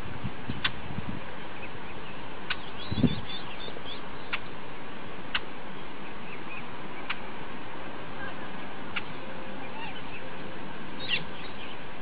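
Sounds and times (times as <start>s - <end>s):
outdoor hiss: 0.0s - 12.0s
small birds chirping: 0.4s - 7.4s, 8.2s - 12.0s.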